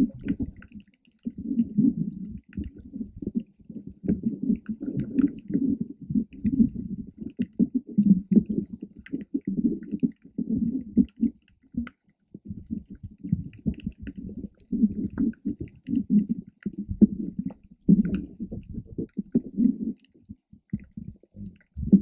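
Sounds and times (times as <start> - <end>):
underwater rumbling and sloshing: 0.0 - 22.0.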